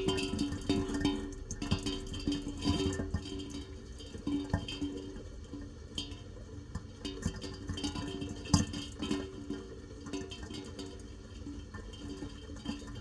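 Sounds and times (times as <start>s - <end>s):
rain water dripping and splashing: 0.0s - 13.0s.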